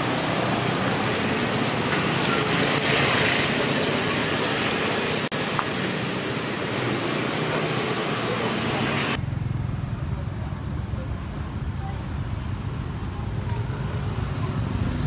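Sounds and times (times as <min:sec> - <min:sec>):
steady traffic roar: 0:00.0 - 0:15.0.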